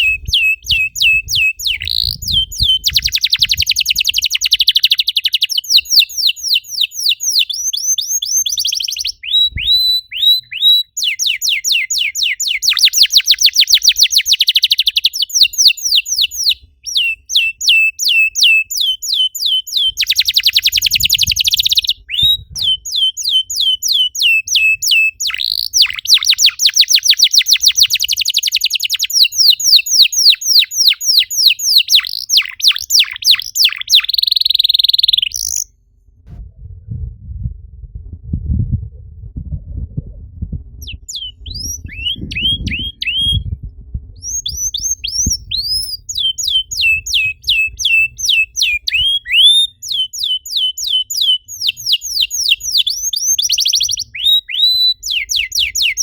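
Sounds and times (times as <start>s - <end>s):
canary singing trills: 0.0s - 35.7s, 40.8s - 43.5s, 44.2s - 56.0s.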